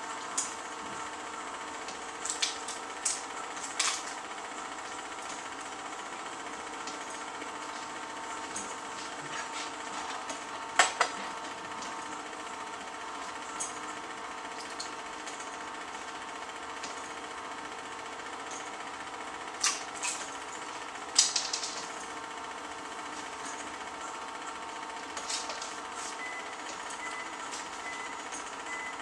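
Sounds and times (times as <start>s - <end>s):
film projector whirring: 0.0s - 29.0s.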